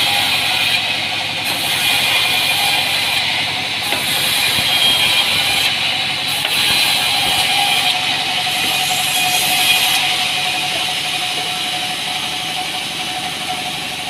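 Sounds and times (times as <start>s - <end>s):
band saw running: 0.0s - 14.0s.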